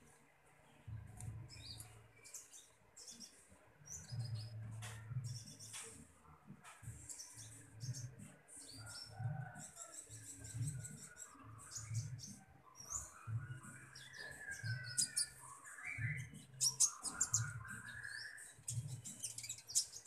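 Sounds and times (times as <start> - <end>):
bird chirping and twittering: 0.6 - 20.0.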